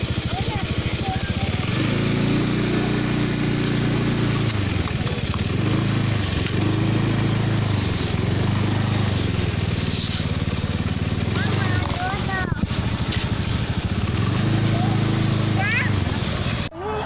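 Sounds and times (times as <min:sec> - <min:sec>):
small motorcycle engine running: 0:00.0 - 0:16.7.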